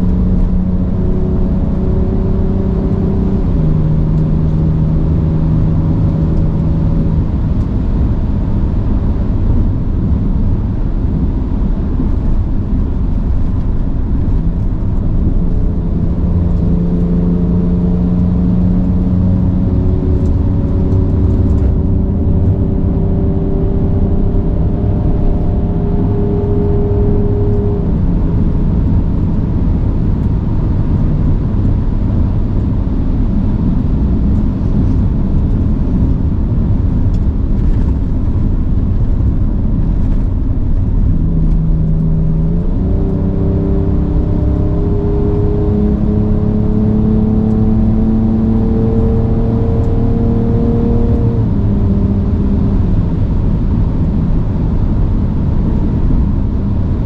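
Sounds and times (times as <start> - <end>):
heavy rumble: 0.0 - 57.0
pickup engine accelerating: 0.0 - 57.0.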